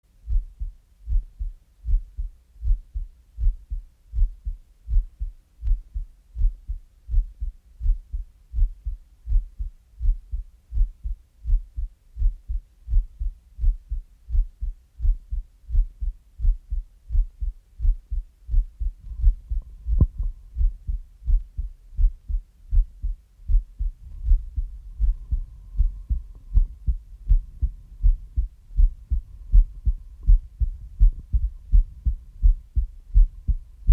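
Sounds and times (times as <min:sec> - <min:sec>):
faint steady tone: 0:00.1 - 0:33.9
heartbeat low thumps: 0:00.1 - 0:33.9.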